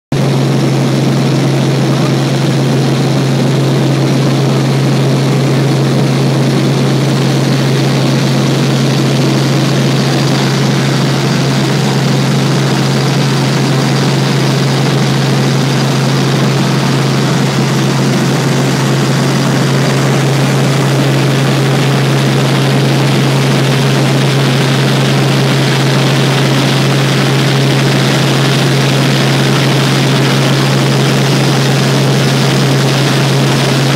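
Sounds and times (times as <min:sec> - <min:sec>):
helicopter engine and rotors drone: 0:00.2 - 0:33.9.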